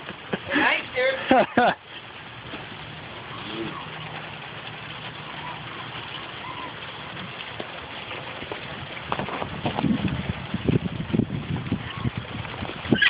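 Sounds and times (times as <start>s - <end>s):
rain: 0.0s - 13.0s
wind: 0.0s - 13.0s.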